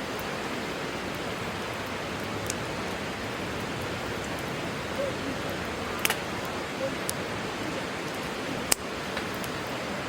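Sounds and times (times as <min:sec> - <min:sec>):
rushing outdoor background noise: 0:00.0 - 0:10.0.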